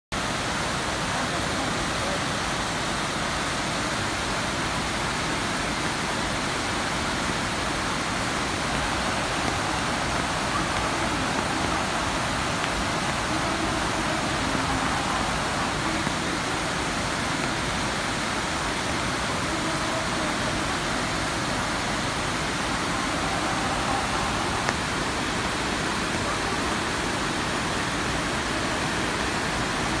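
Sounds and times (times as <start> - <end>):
river rapids roaring: 0.2 - 30.0.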